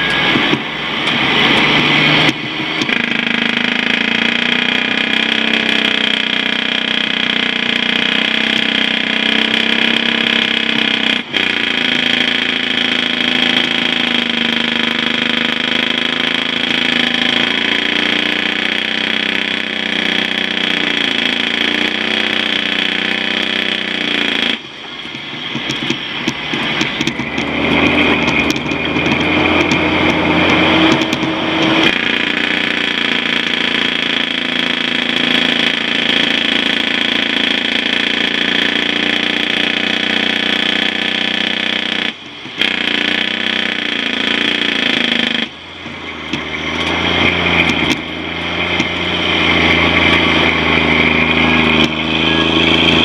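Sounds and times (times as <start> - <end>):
truck diesel engine under load: 0.0 - 53.0.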